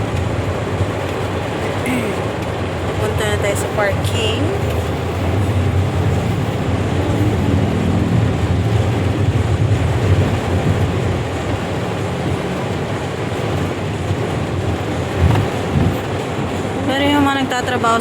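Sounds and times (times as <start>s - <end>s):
heavy rain hiss: 0.0s - 18.0s
vehicle rumble: 0.0s - 18.0s.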